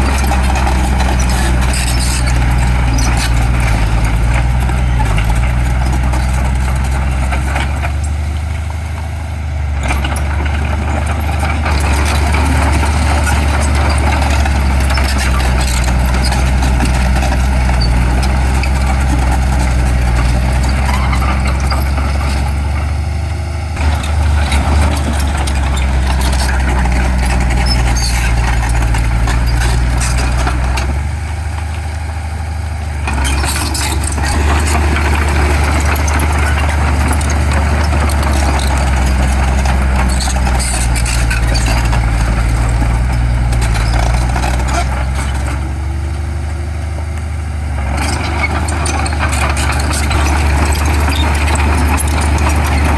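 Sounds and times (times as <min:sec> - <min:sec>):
heavy diesel engine drone: 0:00.0 - 0:52.9.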